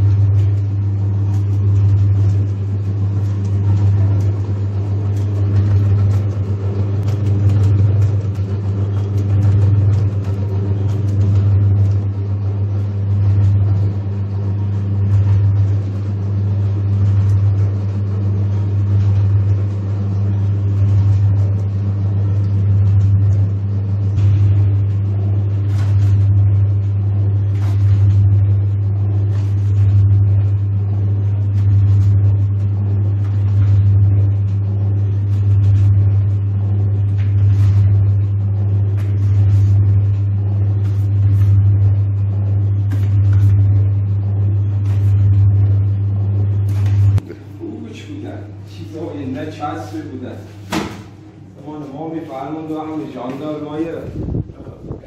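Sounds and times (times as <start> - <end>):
dough mixer motor hum: 0.0 - 55.0.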